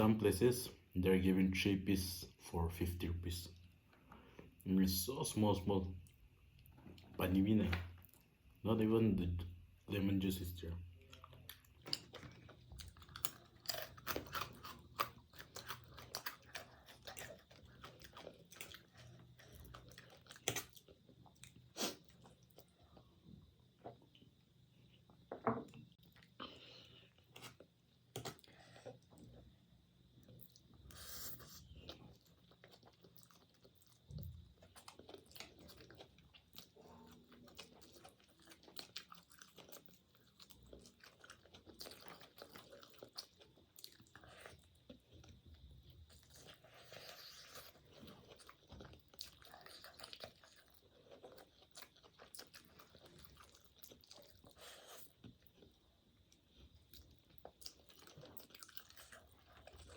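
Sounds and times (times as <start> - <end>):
chewing and crunching food: 10.3 - 59.9.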